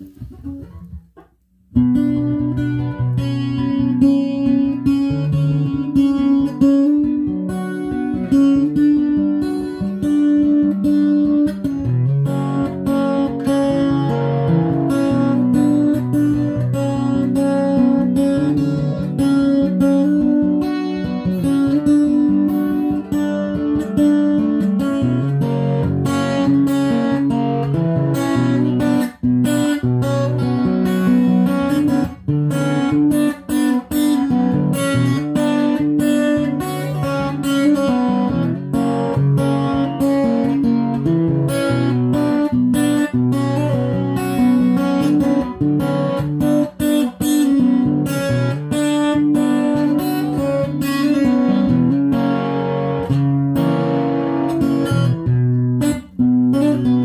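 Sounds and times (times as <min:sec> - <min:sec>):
acoustic guitar riff: 0:00.0 - 0:57.0.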